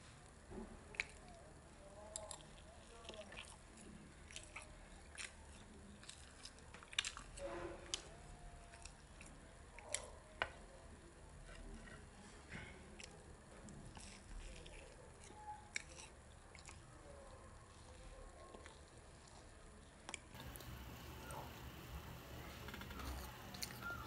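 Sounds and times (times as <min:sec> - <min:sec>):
child chewing pancake: 0:00.0 - 0:24.0.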